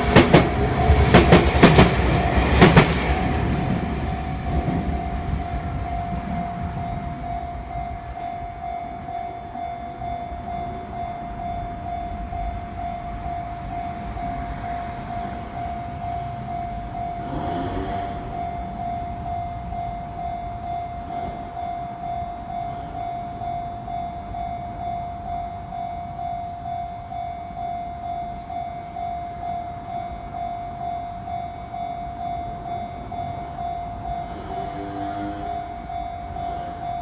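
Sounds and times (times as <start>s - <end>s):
level crossing bell clanging: 0.0s - 37.0s.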